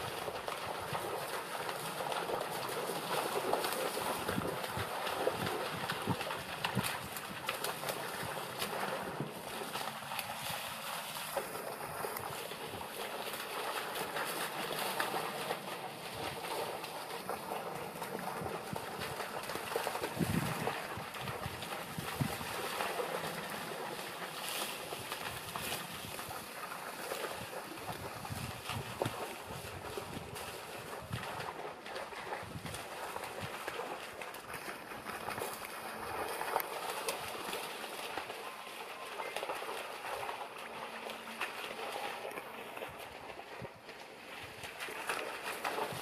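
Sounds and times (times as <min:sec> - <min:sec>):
splashing in shallow water: 0:00.0 - 0:46.0
dry reeds rustling and crackling: 0:00.3 - 0:46.0.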